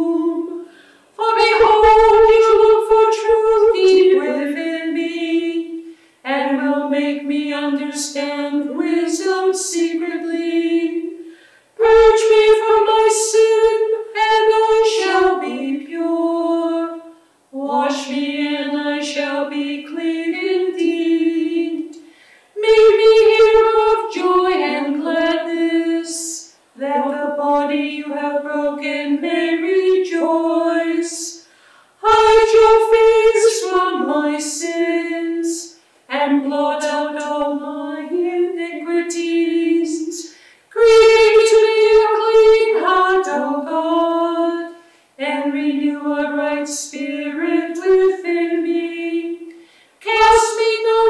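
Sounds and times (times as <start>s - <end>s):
women singing a chant: 0.0s - 51.0s.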